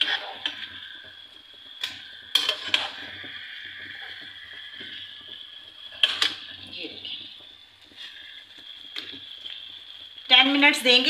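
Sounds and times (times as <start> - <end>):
chicken sizzling: 0.0 - 11.0.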